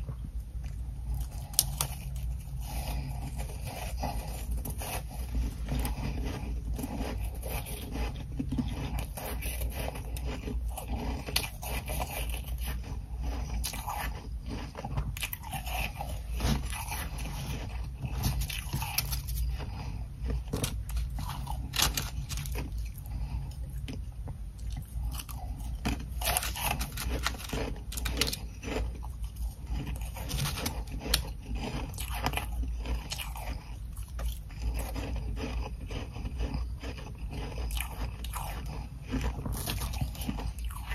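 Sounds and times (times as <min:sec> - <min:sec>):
ice crunching and chewing: 0:00.0 - 0:40.9.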